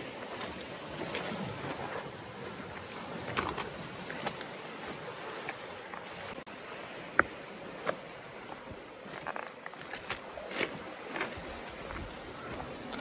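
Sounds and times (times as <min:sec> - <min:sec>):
small waves on cobble beach: 0:00.0 - 0:13.0
wind: 0:00.0 - 0:13.0.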